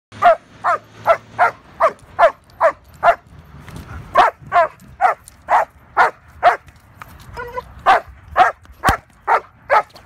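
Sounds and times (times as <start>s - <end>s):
dog barking fast: 0.2s - 3.2s, 4.2s - 6.6s, 7.4s - 10.0s.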